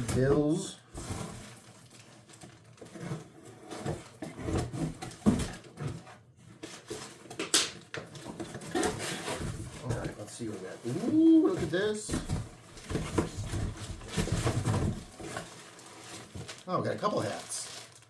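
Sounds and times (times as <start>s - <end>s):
box contents rustling and knocking: 0.0s - 18.0s.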